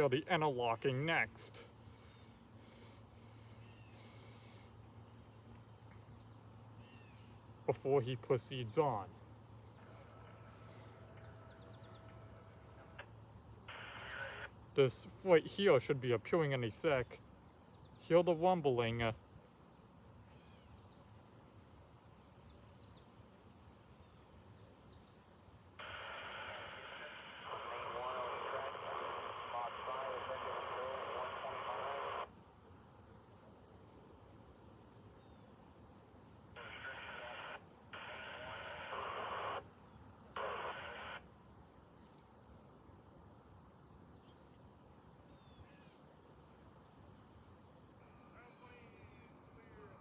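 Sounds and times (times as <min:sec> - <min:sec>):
crickets trilling: 0:00.0 - 0:50.0
scanner radio hiss: 0:00.0 - 0:50.0.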